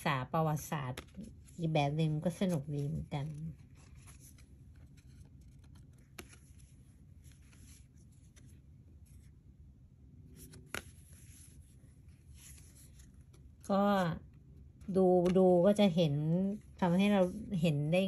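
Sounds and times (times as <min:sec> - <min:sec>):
cards rustling: 0:00.9 - 0:15.4.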